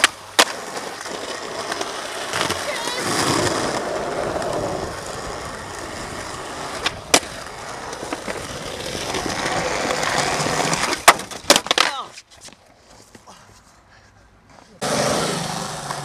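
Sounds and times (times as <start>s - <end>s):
skateboard wheels rolling on concrete: 0.0s - 16.0s.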